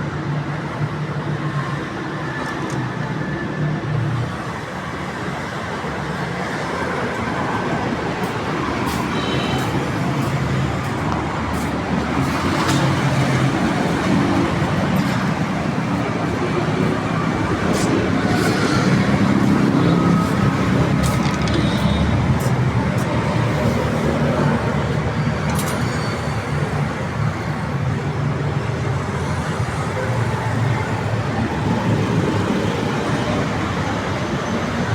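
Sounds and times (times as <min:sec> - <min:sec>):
traffic noise: 0:00.0 - 0:34.9.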